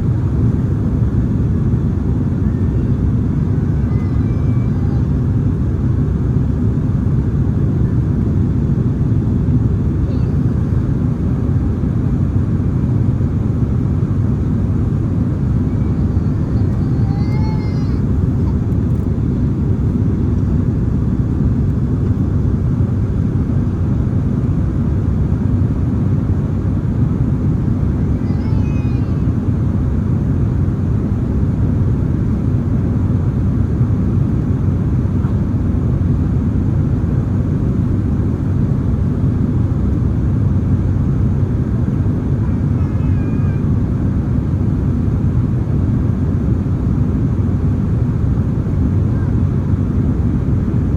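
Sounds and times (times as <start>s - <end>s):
aircraft cabin rumble: 0.0s - 50.9s.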